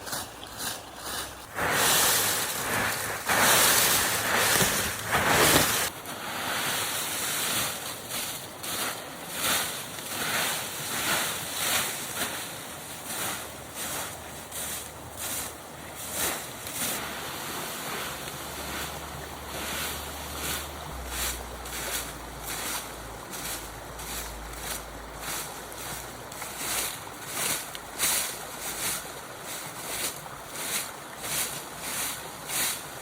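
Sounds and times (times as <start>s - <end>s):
broom sweeping: 0.0s - 33.0s.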